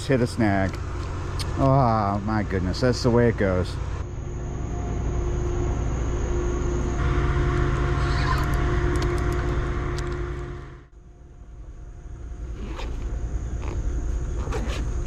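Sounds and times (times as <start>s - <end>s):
ferry engine hum: 0.0s - 15.0s.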